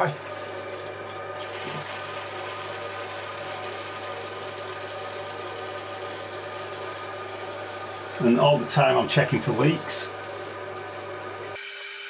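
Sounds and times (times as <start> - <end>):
water hissing into toilet cistern: 0.0 - 11.6.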